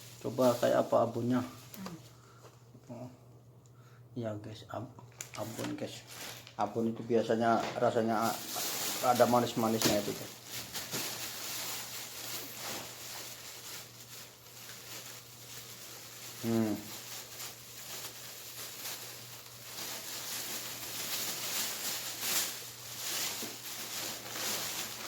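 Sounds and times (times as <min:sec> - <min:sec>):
plastic bags rustling: 0:00.0 - 0:02.4, 0:05.1 - 0:25.0.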